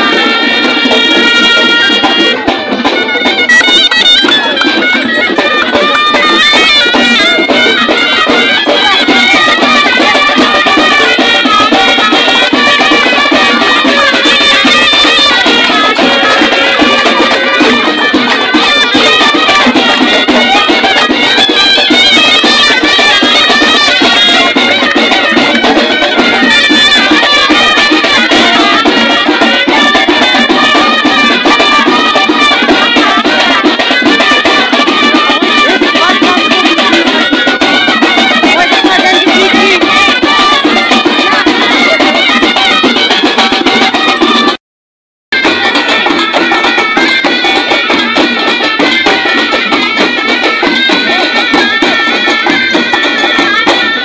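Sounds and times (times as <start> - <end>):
shrill reed pipes melody: 0.0 - 44.6, 45.4 - 54.0.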